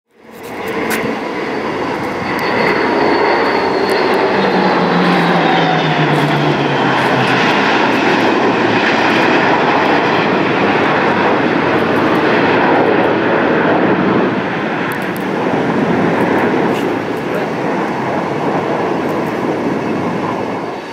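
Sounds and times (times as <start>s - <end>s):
jet fighter flying past: 0.1s - 20.9s.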